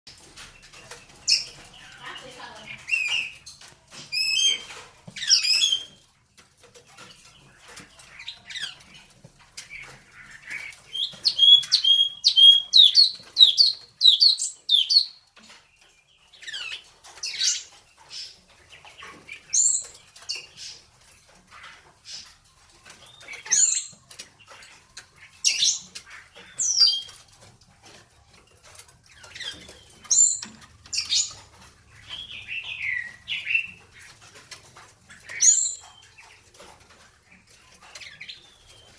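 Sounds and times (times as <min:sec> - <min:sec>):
songbird singing: 0:00.1 - 0:06.1, 0:06.9 - 0:28.0, 0:28.6 - 0:38.9.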